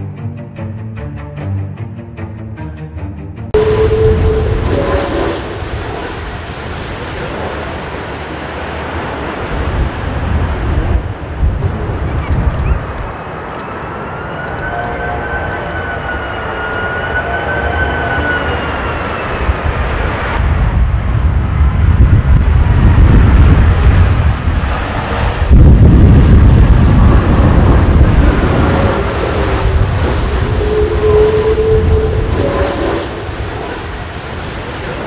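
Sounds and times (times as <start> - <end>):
deep jet rumble: 3.5 - 35.0
jet engine whine: 3.5 - 35.0.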